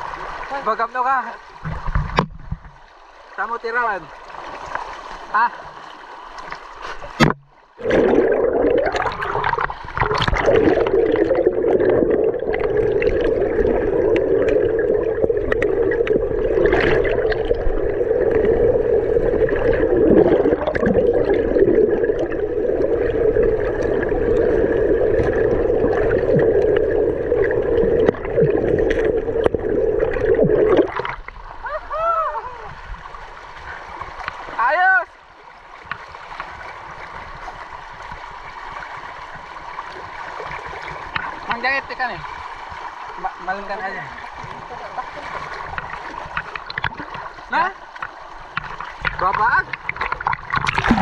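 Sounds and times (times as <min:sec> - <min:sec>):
muffled underwater river rush: 0:00.0 - 0:51.0.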